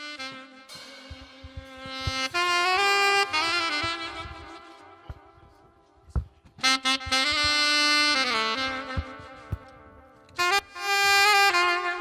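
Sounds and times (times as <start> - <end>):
slow saxophone music: 0.0 - 12.0.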